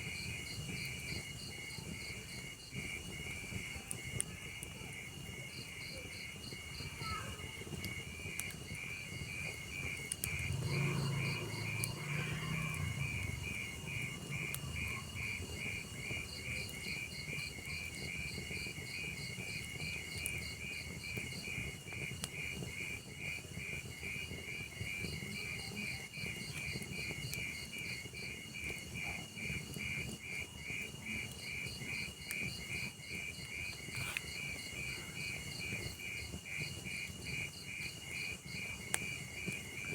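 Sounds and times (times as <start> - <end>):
crickets chirping: 0.0 - 39.9
log fire crackling: 0.0 - 39.9.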